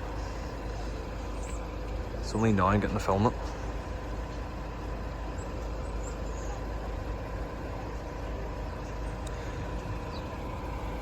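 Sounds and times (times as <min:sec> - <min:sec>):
faint constant hum: 0:00.0 - 0:11.0
vehicle engines idling: 0:00.0 - 0:11.0.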